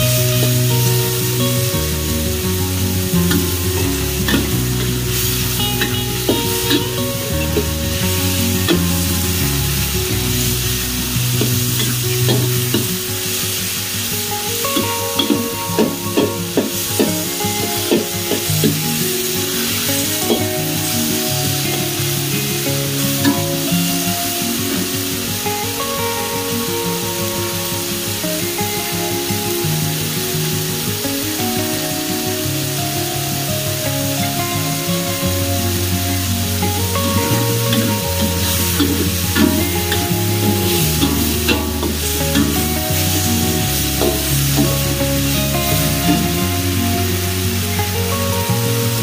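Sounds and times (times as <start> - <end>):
background music: 0.0 - 49.0
meat sizzling in a wok: 0.0 - 49.0.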